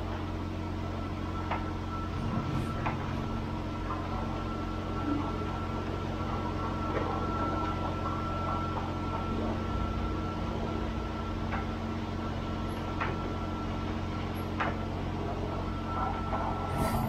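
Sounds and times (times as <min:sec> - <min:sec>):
car wash machine hum: 0:00.0 - 0:17.0
thin steady whine: 0:00.0 - 0:17.0.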